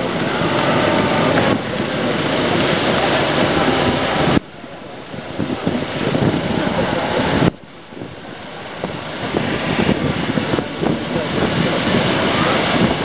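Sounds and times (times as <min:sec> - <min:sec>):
passengers' voices: 0:00.0 - 0:13.0
tram rumble and hiss: 0:00.0 - 0:13.0.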